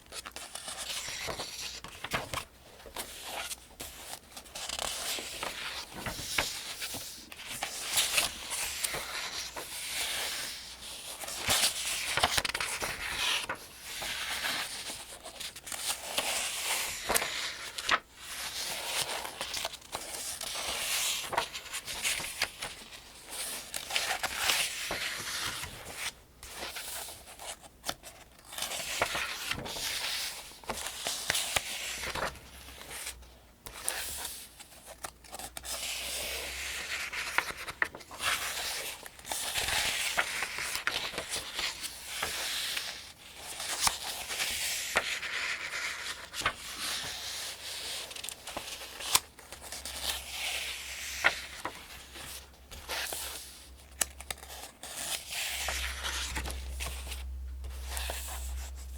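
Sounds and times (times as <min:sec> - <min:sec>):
paper pages turning: 0:00.0 - 0:58.9.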